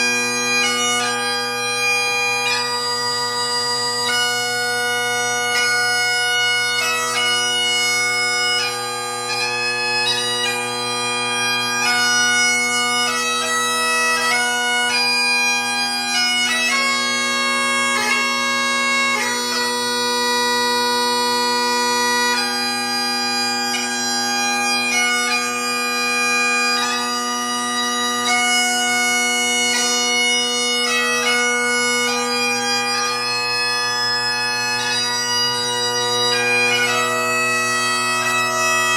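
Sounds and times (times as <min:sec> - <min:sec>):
bagpipe playing: 0:00.0 - 0:38.9.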